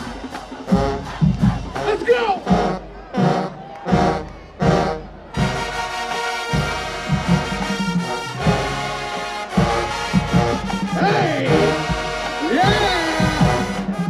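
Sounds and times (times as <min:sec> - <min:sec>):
drums: 0:00.0 - 0:14.0
marching band playing: 0:00.0 - 0:14.0.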